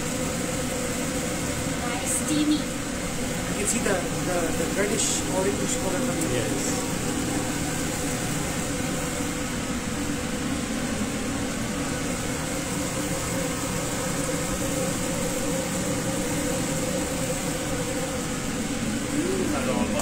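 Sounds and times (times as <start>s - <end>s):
exhaust hood fan whirring: 0.0s - 20.0s.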